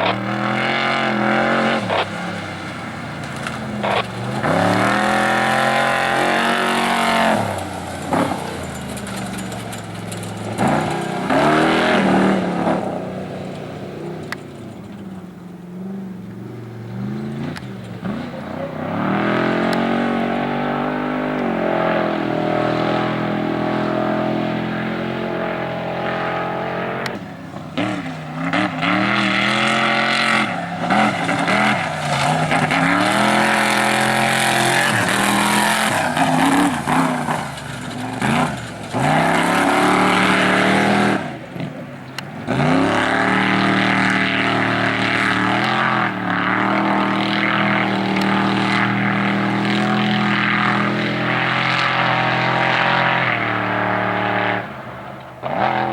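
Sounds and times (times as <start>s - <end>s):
race vehicle engines revving: 0.0s - 55.9s.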